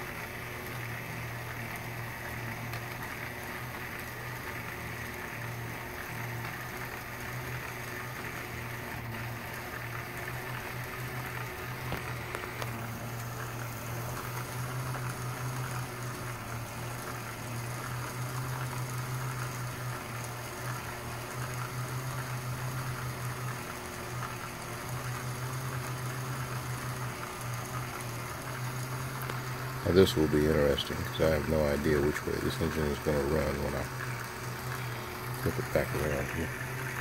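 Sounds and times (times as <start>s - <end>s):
electric motor humming: 0.0s - 37.0s.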